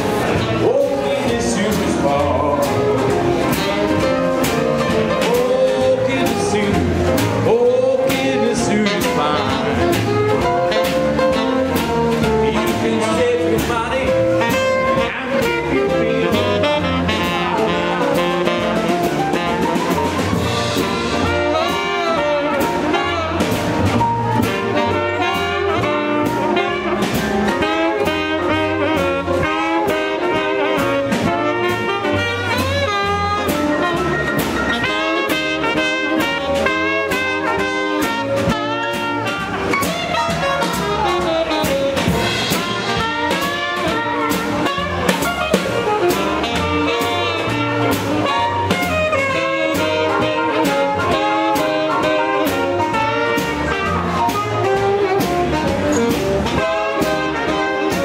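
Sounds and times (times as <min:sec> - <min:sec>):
saxophones: 0:00.0 - 0:58.0
swing jazz band playing: 0:00.0 - 0:58.0.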